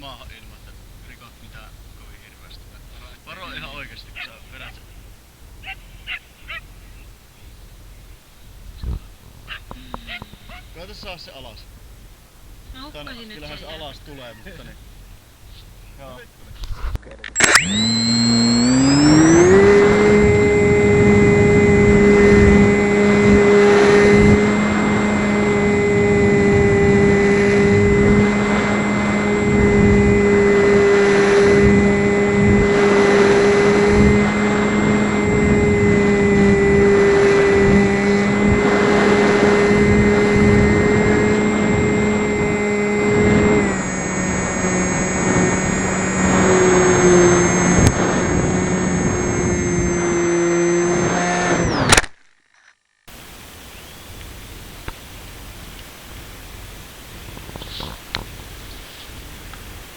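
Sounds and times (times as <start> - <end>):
model plane motor and propeller: 0.0 - 59.9.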